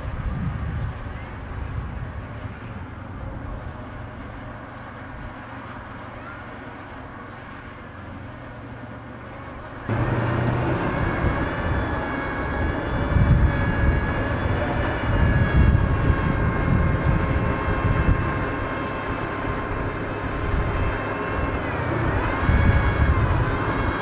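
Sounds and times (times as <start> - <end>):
diesel engine rumbling: 0.0 - 24.0
tracked vehicle whine: 0.0 - 24.0.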